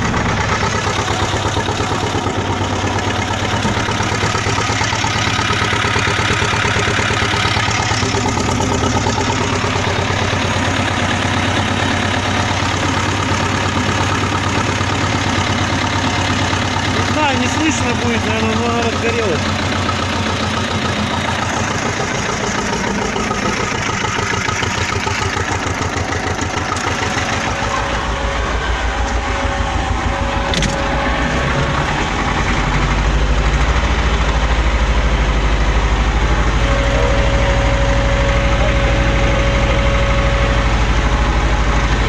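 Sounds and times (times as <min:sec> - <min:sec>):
low pulsing: 0:00.0 - 0:42.0.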